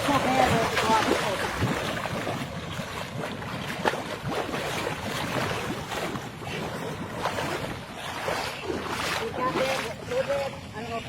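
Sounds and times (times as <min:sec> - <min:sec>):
water sloshing around a drain: 0:00.0 - 0:11.0.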